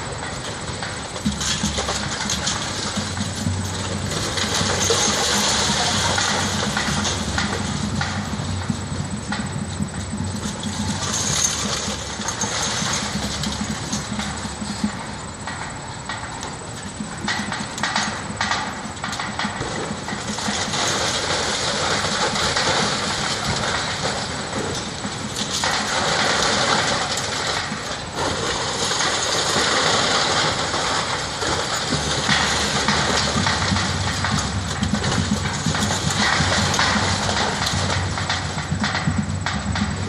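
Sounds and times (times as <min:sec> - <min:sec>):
brick rubble sliding and falling: 0:00.0 - 0:09.4, 0:10.0 - 0:14.8, 0:19.6 - 0:40.0
crane engine running: 0:00.0 - 0:40.0.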